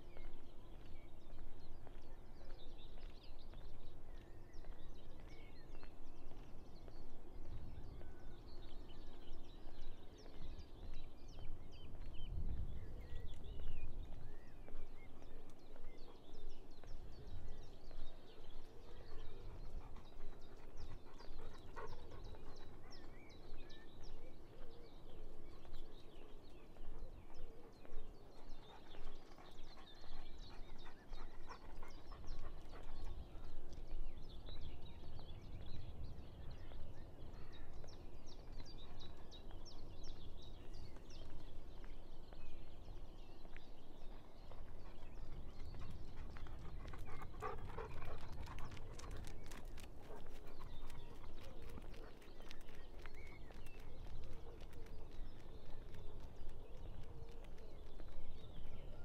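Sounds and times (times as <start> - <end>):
small birds chirping and singing: 0.0 - 59.0.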